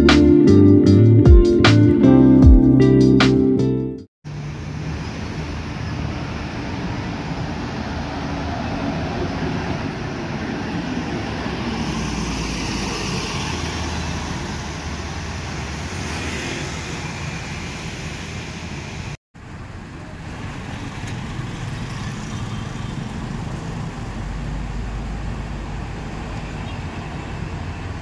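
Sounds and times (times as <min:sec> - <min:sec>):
busy road traffic: 0:04.2 - 0:28.0.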